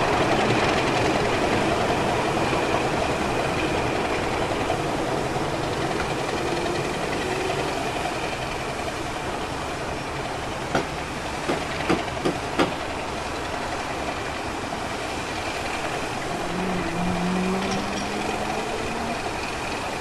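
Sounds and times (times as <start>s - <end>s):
diesel locomotive engine running: 0.0s - 20.0s.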